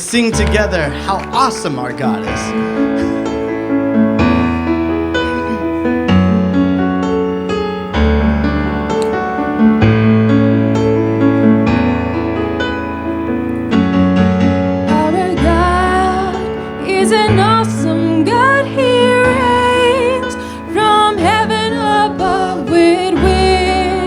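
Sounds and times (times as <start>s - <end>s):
electric keyboard chords: 0.0s - 24.0s.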